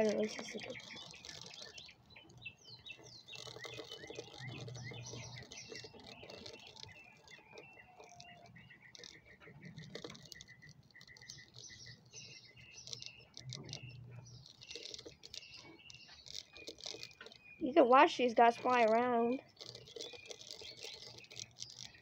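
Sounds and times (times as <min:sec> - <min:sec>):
birds chirping: 0:00.0 - 0:22.0
insects tapping inside cup: 0:00.0 - 0:22.0.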